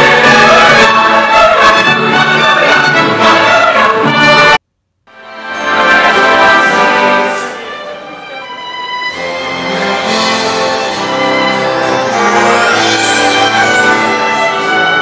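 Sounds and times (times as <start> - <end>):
orchestra playing: 0.0 - 15.0.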